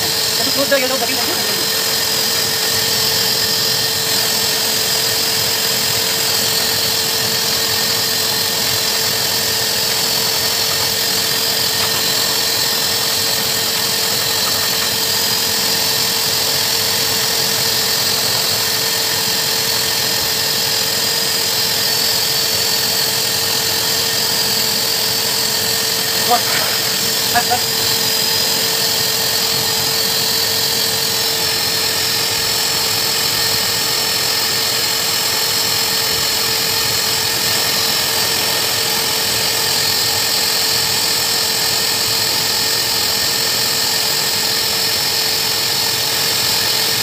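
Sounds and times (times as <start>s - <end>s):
dog blow dryer whine and air rush: 0.0s - 47.0s.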